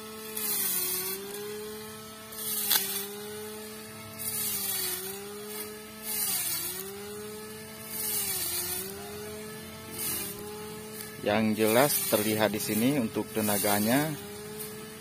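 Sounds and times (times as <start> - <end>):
cut grass swishing: 0.0 - 15.0
string trimmer whining: 0.0 - 15.0.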